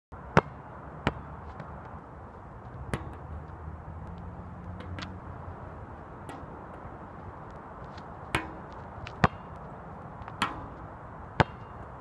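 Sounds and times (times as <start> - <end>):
basketball bouncing on asphalt: 0.2 - 12.0.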